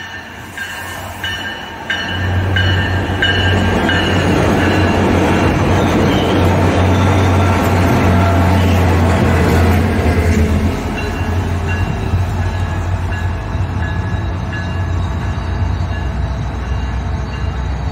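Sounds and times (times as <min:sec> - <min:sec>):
crossing bell ringing: 0:00.0 - 0:17.9
diesel locomotive engine rumble: 0:00.0 - 0:17.9
train wheel noise: 0:00.0 - 0:17.9.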